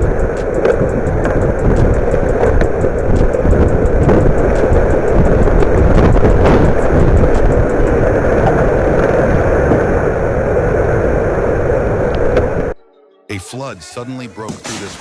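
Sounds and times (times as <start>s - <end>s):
strong wind rumbling on microphone: 0.0s - 12.8s.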